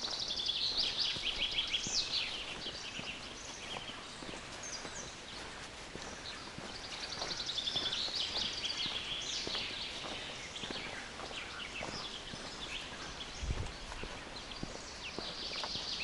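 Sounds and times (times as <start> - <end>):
birds singing: 0.0 - 16.0
footsteps on forest path: 0.0 - 16.0.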